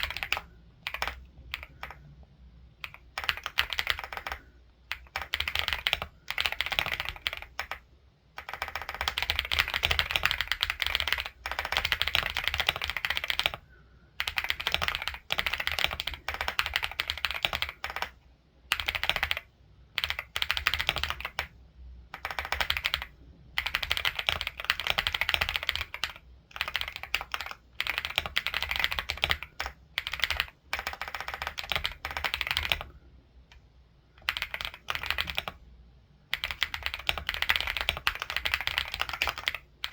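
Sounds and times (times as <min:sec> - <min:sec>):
fast typing on computer keyboard: 0:00.0 - 0:02.1, 0:02.8 - 0:07.8, 0:08.4 - 0:13.6, 0:14.2 - 0:21.5, 0:22.1 - 0:32.9, 0:34.2 - 0:35.6, 0:36.3 - 0:39.9.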